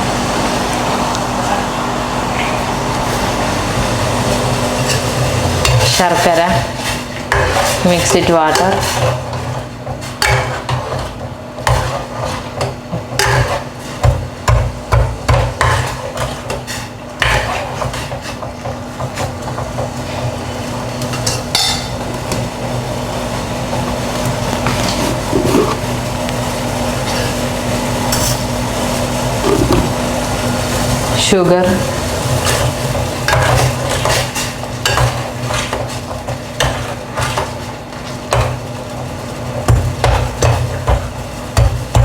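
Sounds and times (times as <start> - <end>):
steady hum: 0.0 - 18.4, 20.0 - 35.7.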